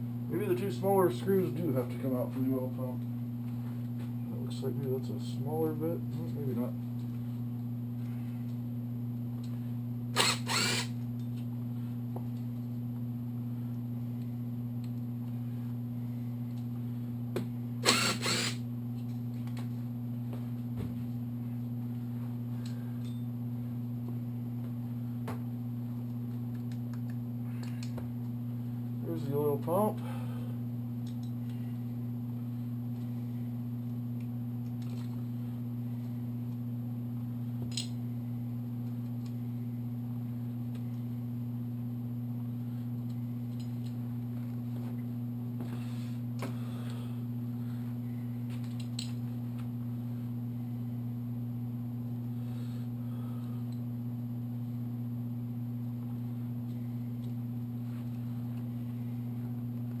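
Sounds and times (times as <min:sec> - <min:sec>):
low hum: 0:00.0 - 1:00.0.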